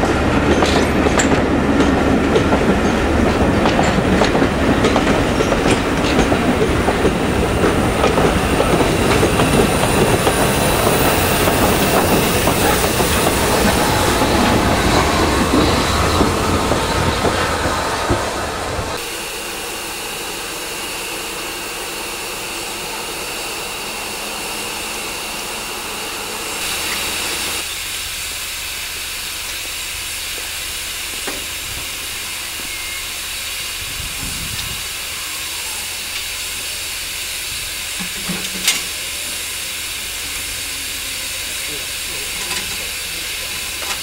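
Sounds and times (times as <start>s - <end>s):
steam hissing: 0.2s - 44.0s.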